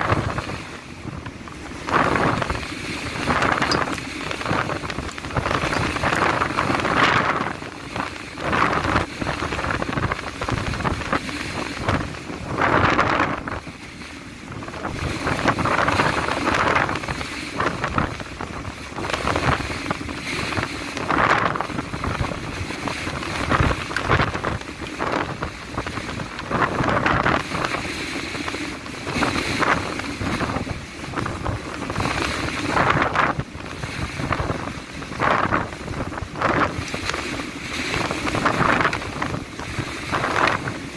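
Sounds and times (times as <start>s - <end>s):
rough sea: 0.0s - 40.9s
wind gusts on microphone: 0.0s - 40.9s.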